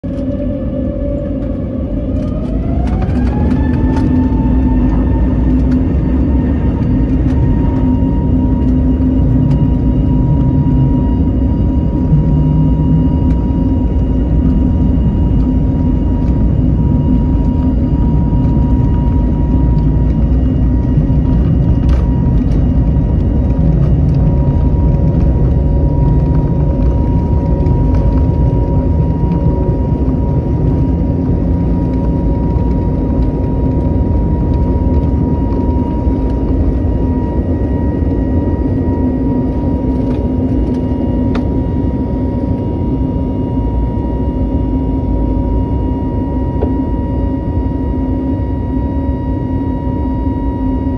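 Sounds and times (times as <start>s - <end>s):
jet engine whine: 0.0s - 50.9s
jet engines rumbling at takeoff: 0.0s - 50.9s.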